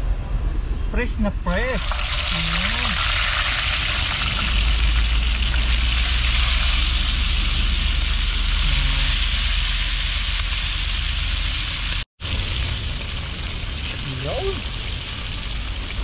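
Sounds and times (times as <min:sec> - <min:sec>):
fish frying in oil: 0:01.5 - 0:16.0.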